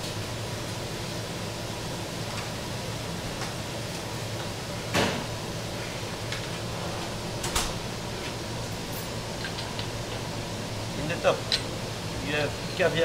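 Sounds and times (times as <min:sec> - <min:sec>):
kitchen ventilation hum: 0:00.0 - 0:13.0.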